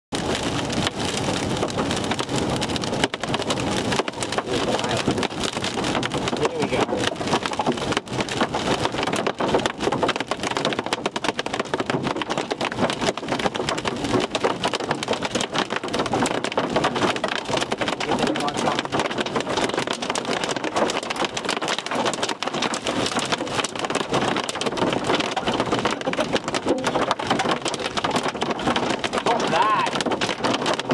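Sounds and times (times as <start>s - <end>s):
hail and rain pelting a vehicle: 0.1s - 30.9s.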